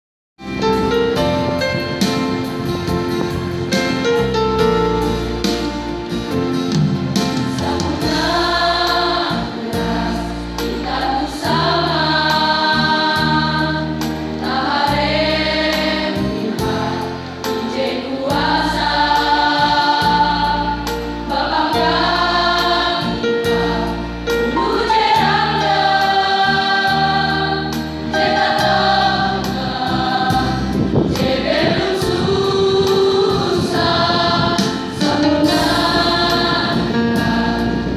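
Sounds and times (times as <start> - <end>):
low instrumental accompaniment: 0.4 - 37.9
choir singing: 7.4 - 37.9.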